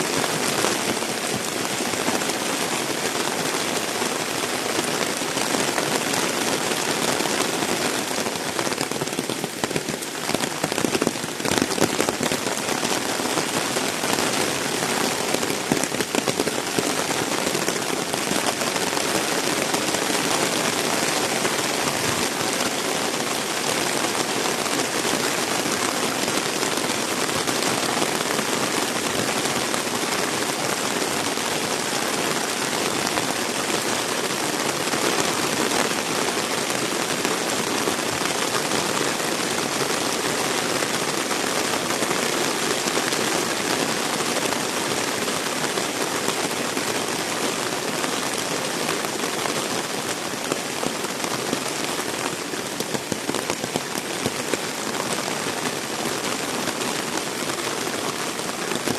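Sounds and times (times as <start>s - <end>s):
heavy rain pouring: 0.0s - 58.9s.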